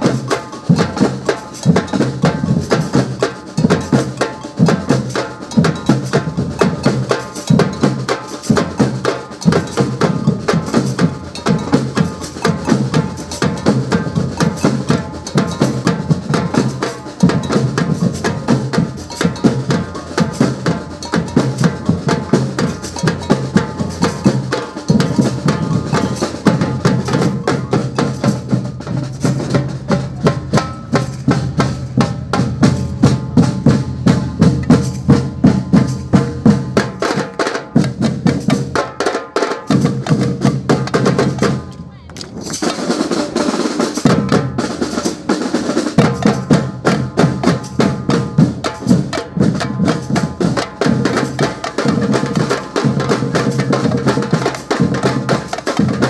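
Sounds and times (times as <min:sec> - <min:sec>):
samba drum band playing: 0:00.0 - 0:56.0.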